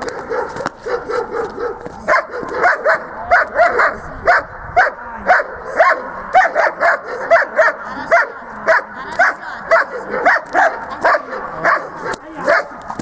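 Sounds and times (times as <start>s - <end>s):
dog yapping: 0.1s - 12.8s.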